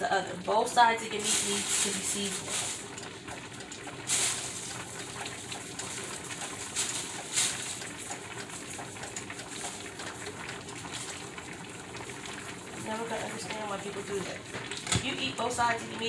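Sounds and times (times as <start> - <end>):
plastic bag rustling: 0.8 - 14.1.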